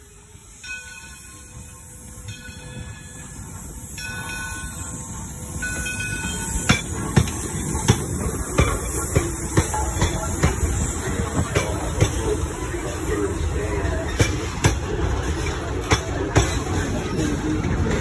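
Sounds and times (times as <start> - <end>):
steam train rumbling past: 0.0 - 18.0.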